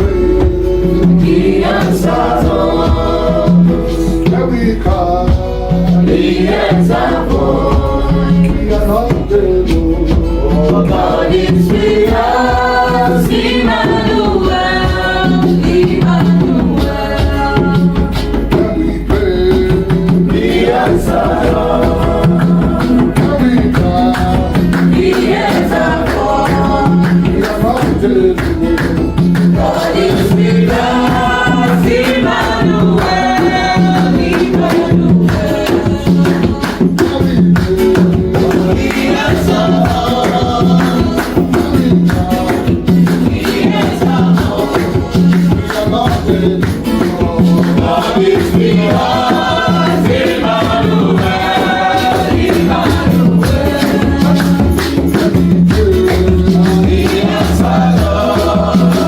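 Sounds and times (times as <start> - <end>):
gospel voices singing: 0.0 - 59.0
steady beat: 0.0 - 59.0.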